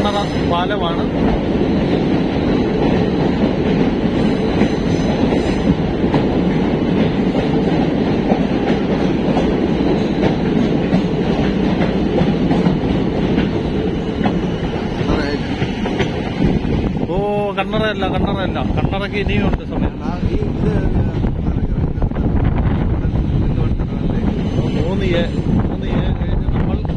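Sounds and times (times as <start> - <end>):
train rumble: 0.0 - 26.9.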